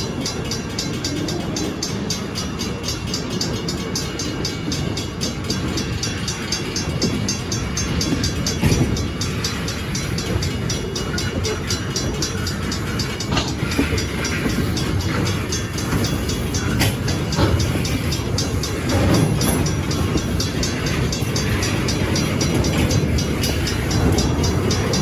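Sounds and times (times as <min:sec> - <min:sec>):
freight cars rolling on rails: 0:00.0 - 0:25.0.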